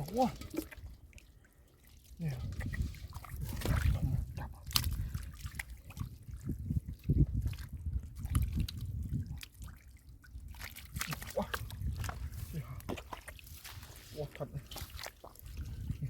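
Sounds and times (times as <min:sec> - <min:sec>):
water and mud splashing: 0:00.0 - 0:16.0.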